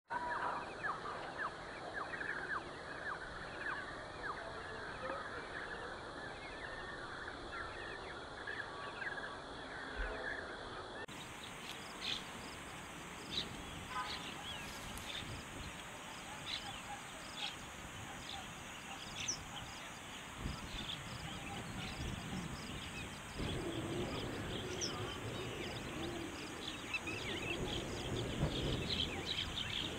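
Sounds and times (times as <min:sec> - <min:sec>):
birds chirping and trilling: 0:00.1 - 0:29.9
steady background hiss: 0:00.2 - 0:29.9.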